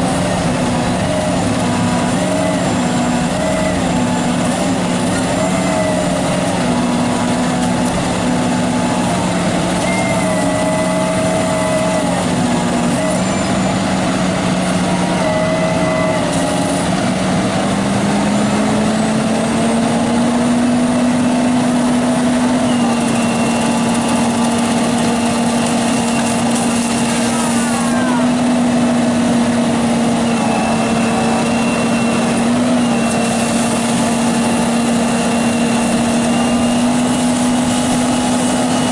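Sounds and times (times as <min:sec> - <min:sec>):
machine engine running: 0:00.0 - 0:38.9.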